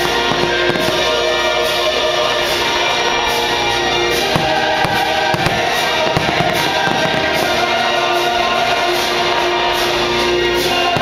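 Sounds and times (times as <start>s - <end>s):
fireworks popping and crackling: 0.0s - 11.0s
show music with held chords: 0.0s - 11.0s.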